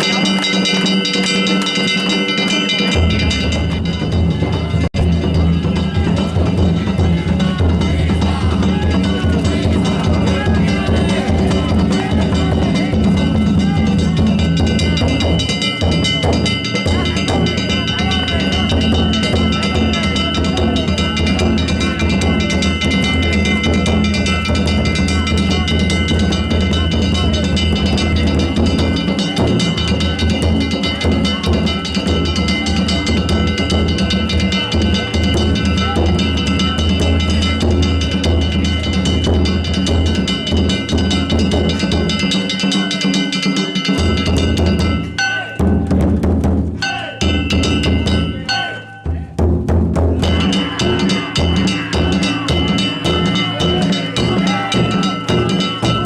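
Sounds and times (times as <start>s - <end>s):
metal hand gongs ringing: 0.0s - 49.4s, 50.2s - 56.0s
taiko drum beating: 0.0s - 56.0s.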